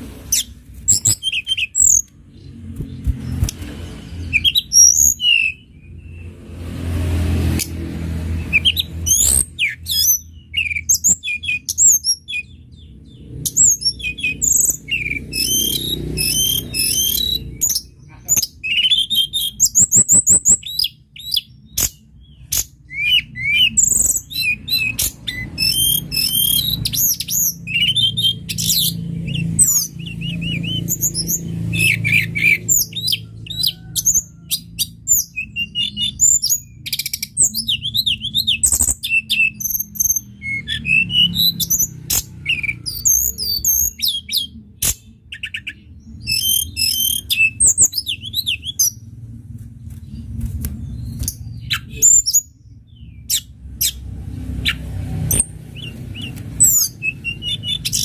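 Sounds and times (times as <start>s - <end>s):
songbird singing trills: 0.3s - 6.3s, 8.4s - 49.1s, 50.0s - 58.0s.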